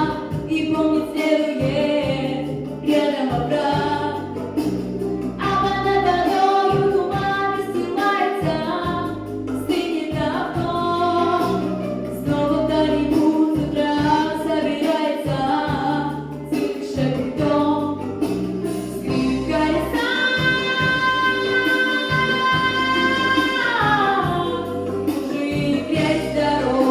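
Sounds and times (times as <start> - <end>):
backing track with bass line: 0.0 - 26.9
woman singing a pop song: 0.0 - 26.9.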